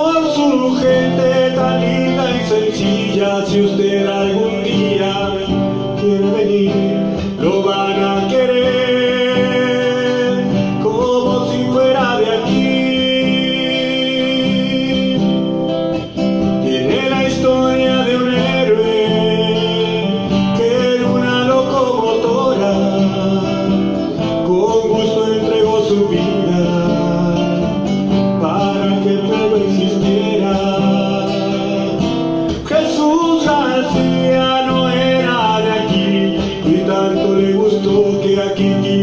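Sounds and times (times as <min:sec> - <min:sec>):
acoustic guitar: 0:00.0 - 0:39.0
man singing: 0:00.0 - 0:39.0.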